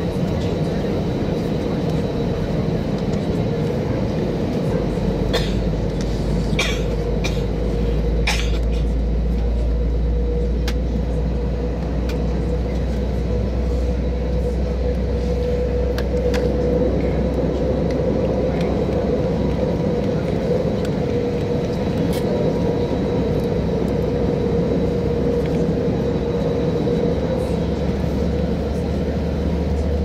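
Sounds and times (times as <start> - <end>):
jet engine rumble and hum: 0.0 - 30.0.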